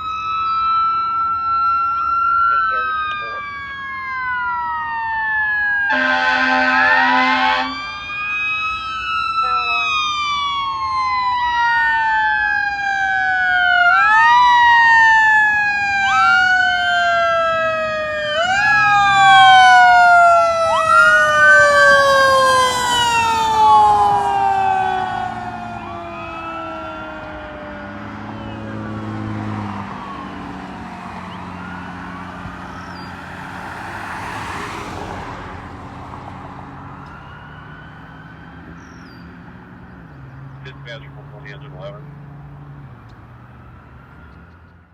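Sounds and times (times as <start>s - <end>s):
fire engine siren: 0.0s - 44.9s.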